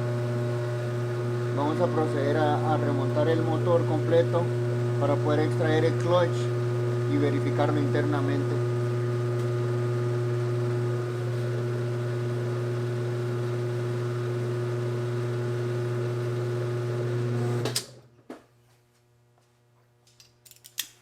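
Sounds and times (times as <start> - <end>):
washer motor humming: 0.0 - 18.0.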